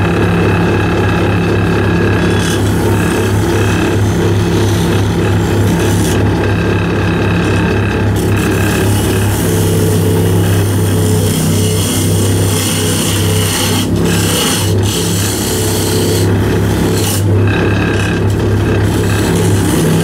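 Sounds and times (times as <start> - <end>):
lathe motor hum: 0.0 - 20.0
tool scraping spinning wood: 0.0 - 20.0.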